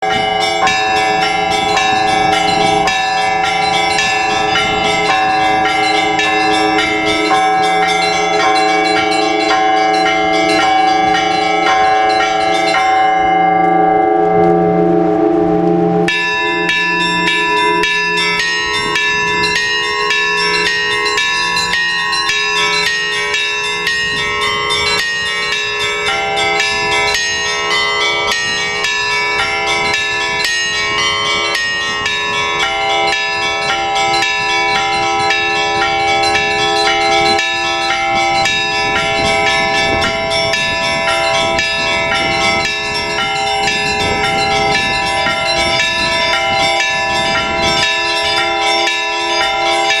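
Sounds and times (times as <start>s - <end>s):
large low bells ringing: 0.0s - 50.0s
small high bells pealing: 0.0s - 50.0s.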